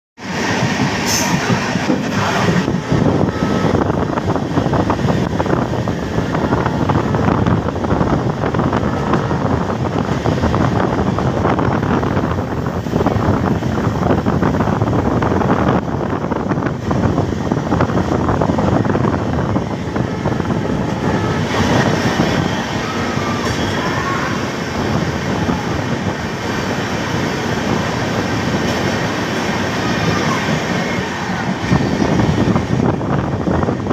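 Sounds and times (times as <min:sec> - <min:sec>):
train wheels rumbling on rails: 0:00.2 - 0:33.9.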